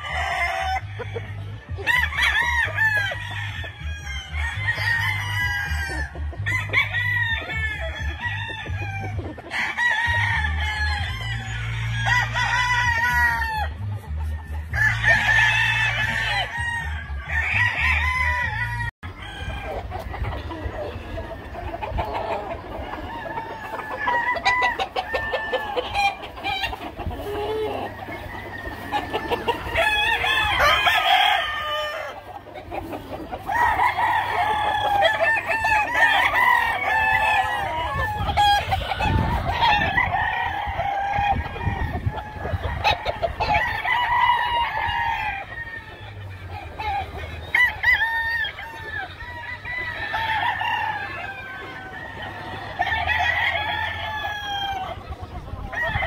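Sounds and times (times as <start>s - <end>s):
chickens clucking: 0.0s - 56.0s
roosters crowing: 0.0s - 56.0s.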